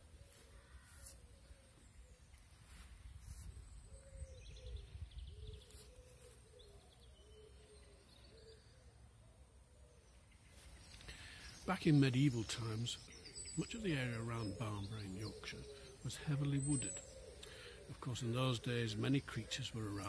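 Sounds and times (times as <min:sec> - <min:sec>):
distant birds chirping: 0:00.0 - 0:20.0.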